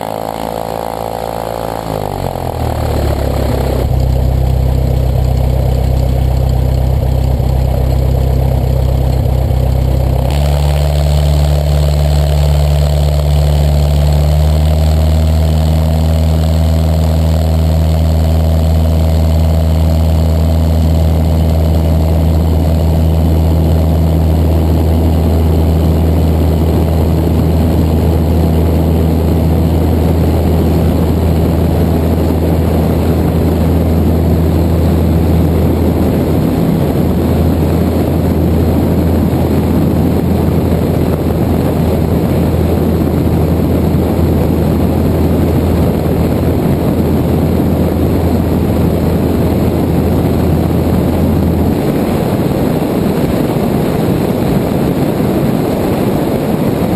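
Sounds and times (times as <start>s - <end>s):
airplane engine and propeller: 0.0s - 56.9s
wind noise on microphone: 0.0s - 56.9s.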